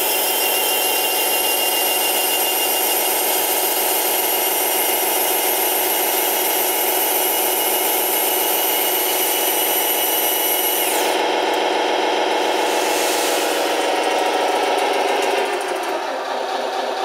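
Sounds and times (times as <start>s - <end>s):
toy truck motor and gears whining: 0.0s - 17.0s.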